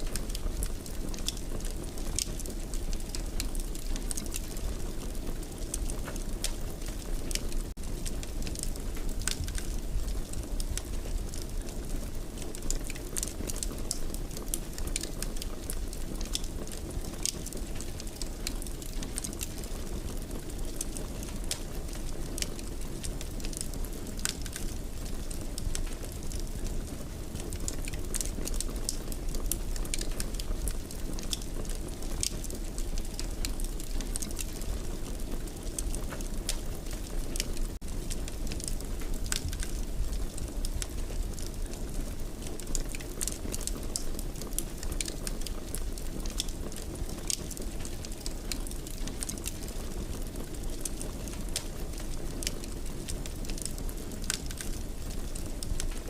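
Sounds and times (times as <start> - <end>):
low rumble of flames: 0.0 - 56.0
wood fire crackling: 0.0 - 56.0.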